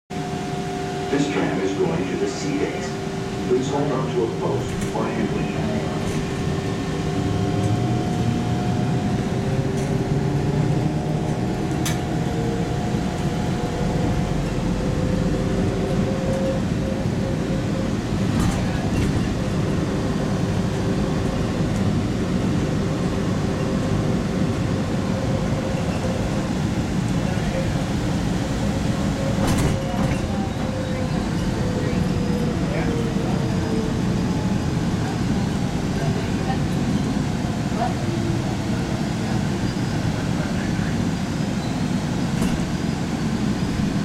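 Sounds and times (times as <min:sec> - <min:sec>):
tram rumble: 0:00.1 - 0:44.0.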